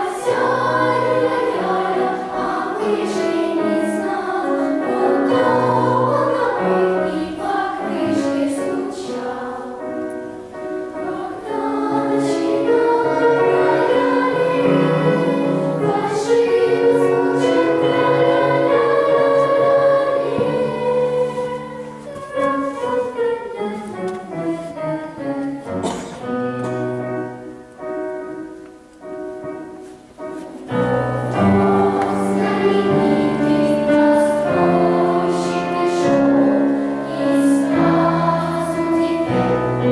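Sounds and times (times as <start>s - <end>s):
children's choir singing: 0.0s - 39.9s.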